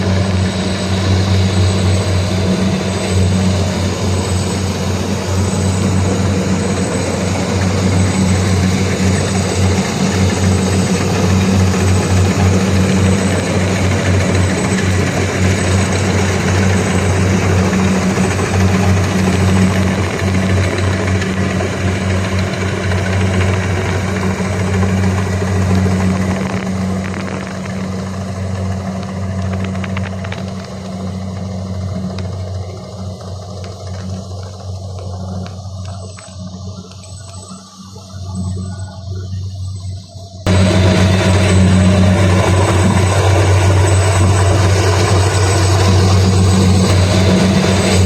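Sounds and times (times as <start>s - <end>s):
combine harvester running: 0.0s - 48.0s.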